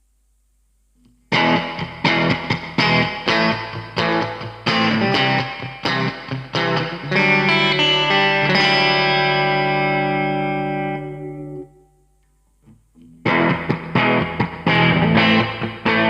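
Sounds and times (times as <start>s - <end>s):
rhythmic guitar strumming: 1.0s - 12.0s, 12.6s - 16.0s
electric guitar chord strummed: 1.3s - 12.0s, 13.0s - 16.0s.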